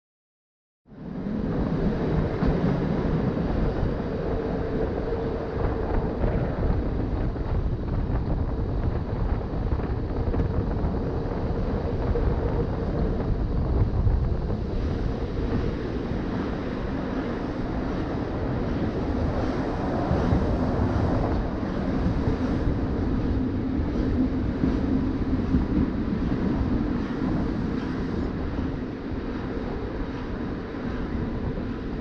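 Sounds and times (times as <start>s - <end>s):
wind buffeting microphone: 0.9s - 32.0s
train running: 1.1s - 32.0s.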